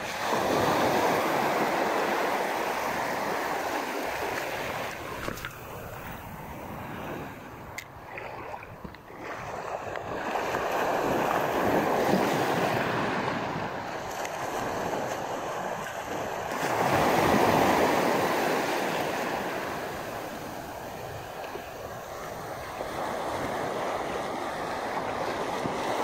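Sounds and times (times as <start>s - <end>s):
small waves on sandy shore: 0.0s - 26.0s.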